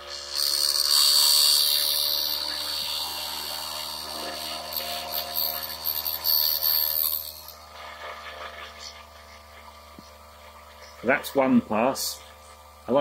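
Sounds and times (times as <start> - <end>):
milling cutter whine and hiss: 0.0 - 13.0
milling machine motor hum: 0.0 - 13.0.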